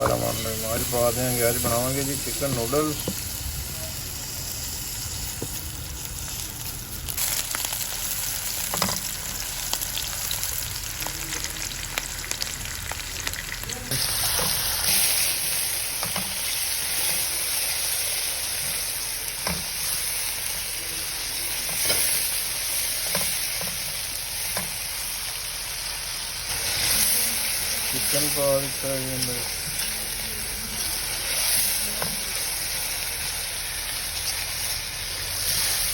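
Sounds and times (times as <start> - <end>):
chicken sizzling in hot oil: 0.0 - 35.9.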